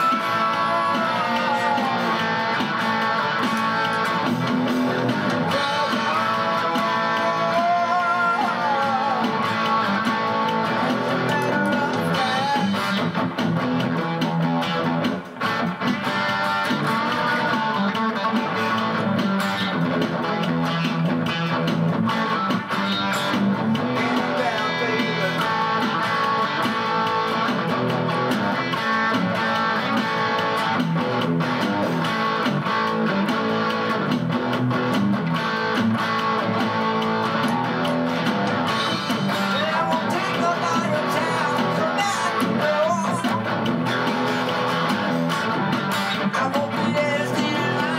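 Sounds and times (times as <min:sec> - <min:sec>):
electric guitar lines: 0:00.0 - 0:47.9
strummed guitar: 0:00.0 - 0:47.9.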